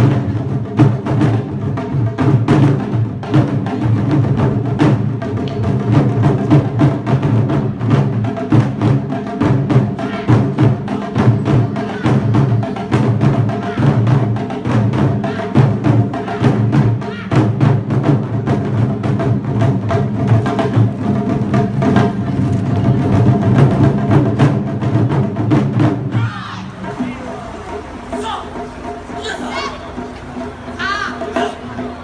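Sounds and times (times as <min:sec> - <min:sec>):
drums struck in fast rhythm: 0:00.0 - 0:32.0.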